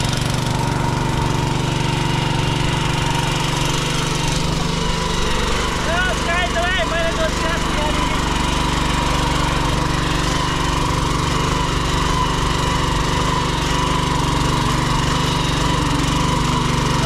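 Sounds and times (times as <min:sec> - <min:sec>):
power tiller engine chugging: 0:00.0 - 0:17.0
tines churning soil: 0:00.0 - 0:17.0.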